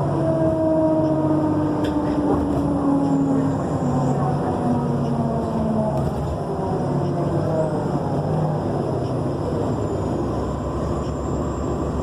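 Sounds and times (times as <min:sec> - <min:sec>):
bus drivetrain rumble: 0:00.0 - 0:12.0.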